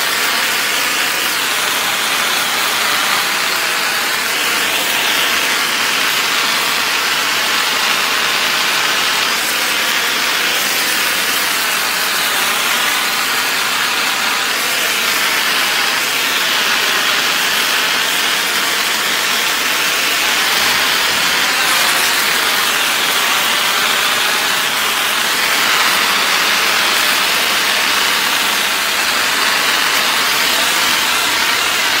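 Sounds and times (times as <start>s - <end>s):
pressure washer jet hissing: 0.0s - 32.0s.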